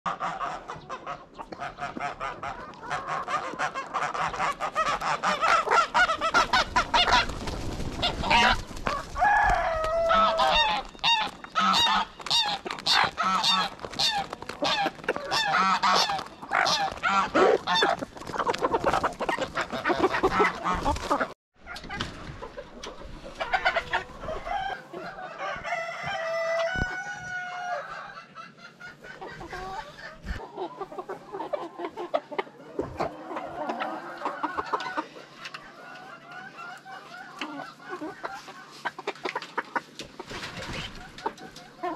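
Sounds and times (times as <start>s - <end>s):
chickens clucking and squawking: 0.1s - 41.9s.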